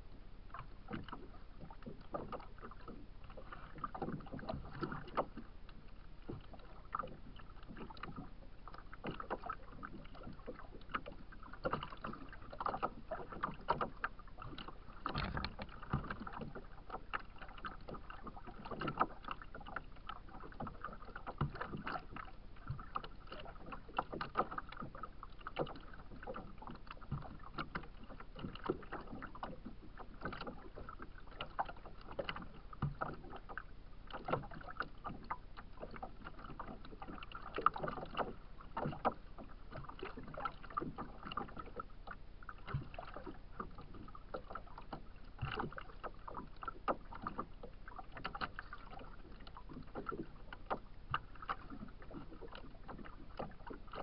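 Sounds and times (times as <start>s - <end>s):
waves lapping against hull: 0.0s - 54.0s.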